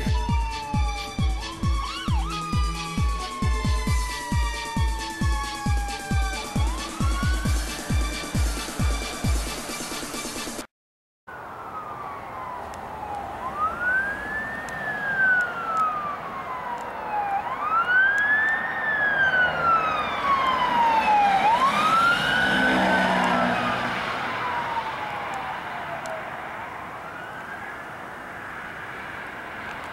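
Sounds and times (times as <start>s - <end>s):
police siren wailing: 0.0s - 10.7s, 11.3s - 29.9s.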